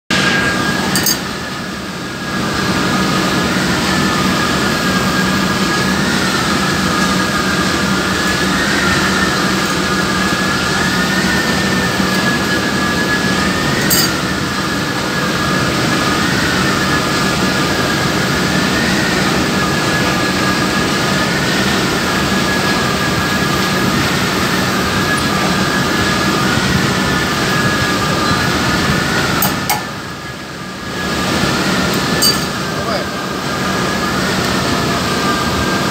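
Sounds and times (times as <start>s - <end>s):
machinery humming with whine: 0.1s - 35.9s.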